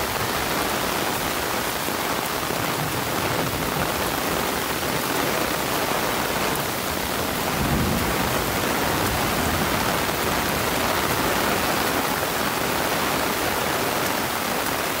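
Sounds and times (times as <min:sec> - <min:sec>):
heavy rain on leaves: 0:00.0 - 0:15.0.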